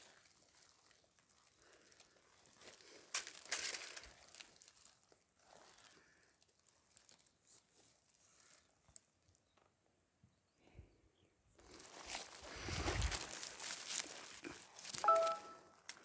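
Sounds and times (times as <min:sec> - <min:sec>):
faint rustling and crinkling: 0:00.0 - 0:10.0, 0:11.5 - 0:16.0.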